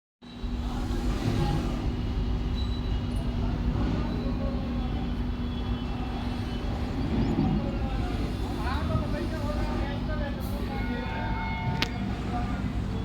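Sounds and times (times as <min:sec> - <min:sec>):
low mechanical rumble: 0:00.2 - 0:13.0
constant hum: 0:00.3 - 0:13.0.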